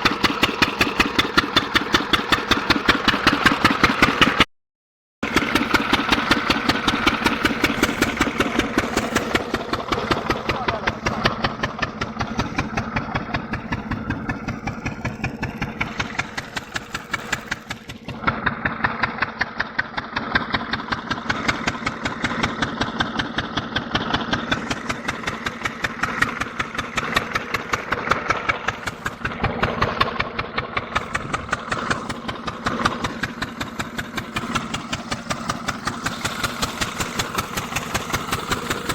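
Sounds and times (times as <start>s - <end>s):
diesel engine running: 0.0s - 4.5s, 5.2s - 38.9s.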